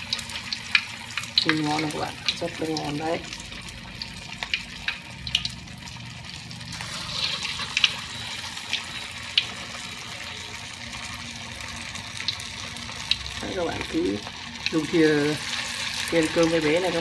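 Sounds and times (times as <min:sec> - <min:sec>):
meat patties sizzling in oil: 0:00.0 - 0:17.0.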